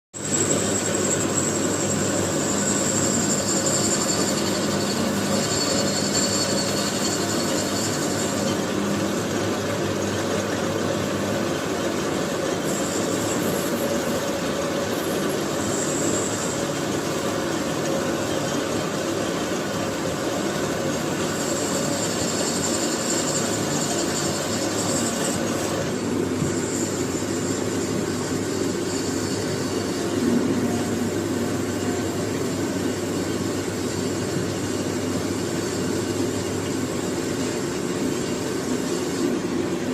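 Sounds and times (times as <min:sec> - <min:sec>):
high-pitched cutting whine: 0:00.2 - 0:39.9
metal lathe humming: 0:00.2 - 0:39.9.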